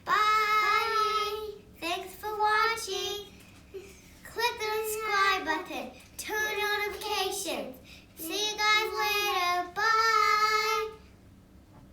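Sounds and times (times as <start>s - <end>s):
child singing: 0.0s - 3.3s, 4.3s - 11.0s.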